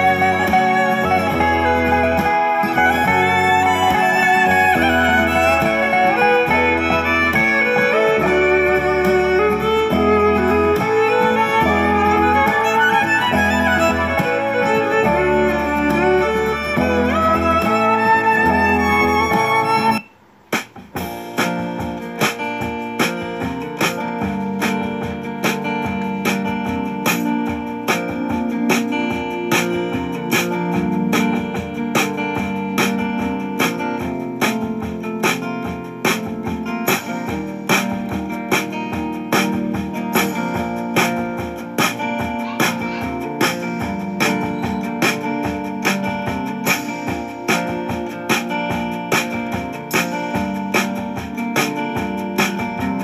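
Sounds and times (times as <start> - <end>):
instrumental music with beat: 0.0 - 53.0
plucked guitar-like notes: 0.0 - 53.0.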